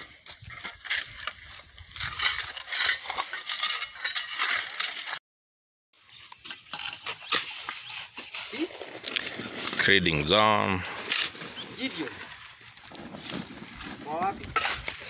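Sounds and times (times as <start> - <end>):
trowels scraping wet mortar: 0.0 - 5.2, 6.2 - 15.0.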